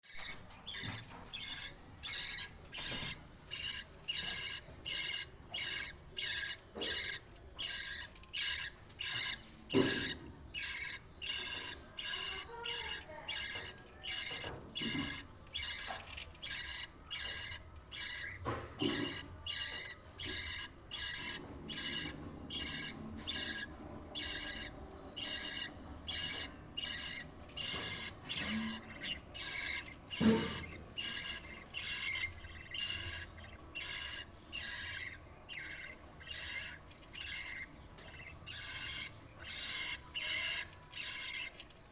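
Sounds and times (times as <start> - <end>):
budgie chicks begging calls: 0.2 - 41.9.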